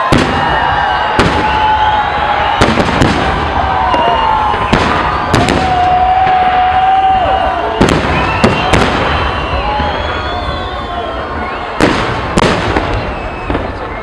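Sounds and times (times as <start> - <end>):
fireworks crackling: 0.0 - 14.0
whistling fireworks: 0.0 - 14.0.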